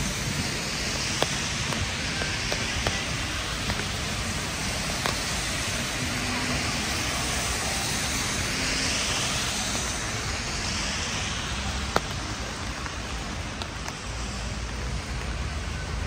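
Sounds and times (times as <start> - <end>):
car tyres hissing on wet street: 0.0 - 16.0
steady rain: 0.0 - 16.0.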